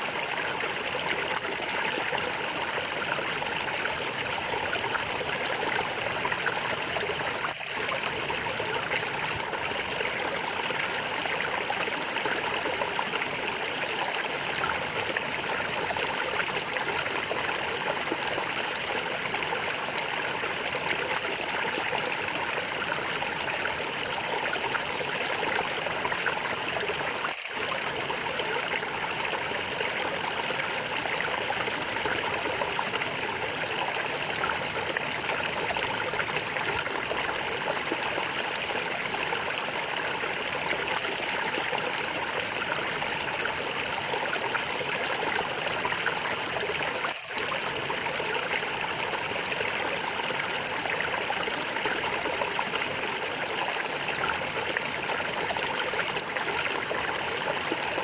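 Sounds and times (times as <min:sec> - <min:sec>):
stream gurgling and trickling: 0:00.0 - 0:58.0.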